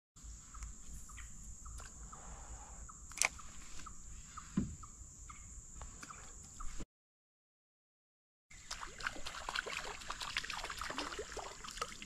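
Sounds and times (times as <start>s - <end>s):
insects droning: 0.2s - 6.8s, 8.5s - 12.0s.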